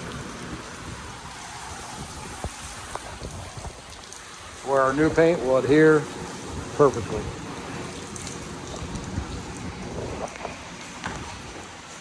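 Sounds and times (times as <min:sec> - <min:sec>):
water spattering on car hood: 0:00.0 - 0:12.0.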